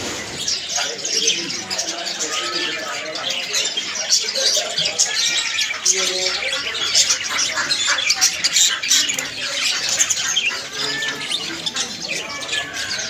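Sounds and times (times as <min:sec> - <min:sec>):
parrots chattering and squawking: 0:00.0 - 0:13.0.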